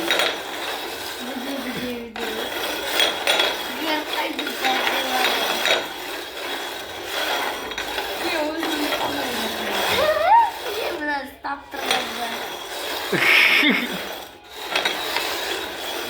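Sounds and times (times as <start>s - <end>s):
hard objects clinking on table: 0.0s - 11.0s, 11.7s - 16.0s.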